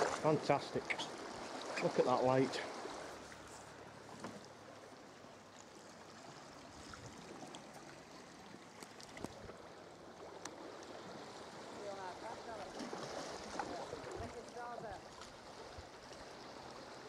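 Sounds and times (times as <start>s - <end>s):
sea water lapping: 0.0s - 17.0s.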